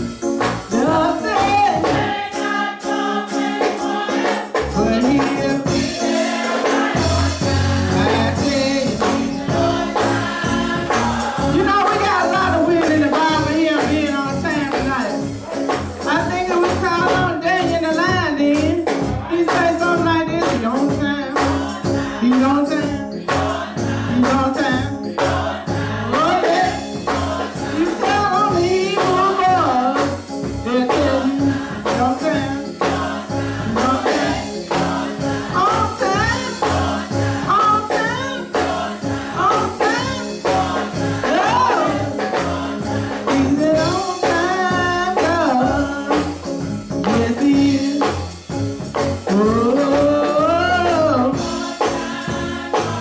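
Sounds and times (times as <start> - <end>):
choir singing gospel song: 0.0 - 53.0
instrumental accompaniment with beat: 0.0 - 53.0.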